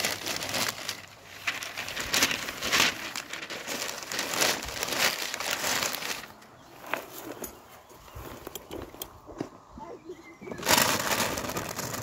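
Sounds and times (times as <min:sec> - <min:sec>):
newspaper rustling and crinkling: 0:00.0 - 0:09.0, 0:10.5 - 0:12.0.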